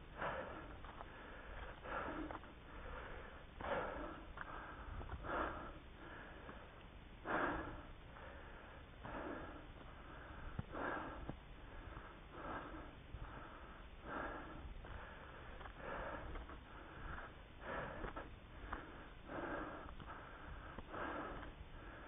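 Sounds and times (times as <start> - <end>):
person breathing heavily: 0.0 - 22.0.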